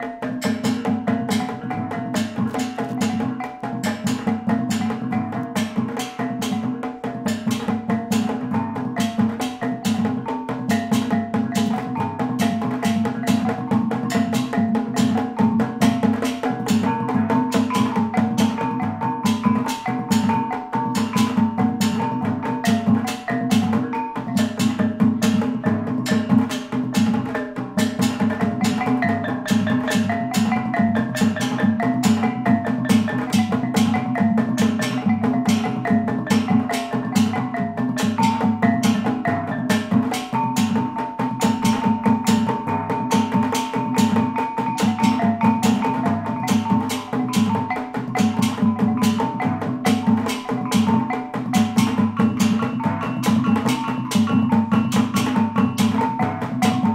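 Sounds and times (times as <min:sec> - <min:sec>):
drum: 0:00.0 - 0:56.9
tuned gong-kettles struck rapidly: 0:00.1 - 0:56.9.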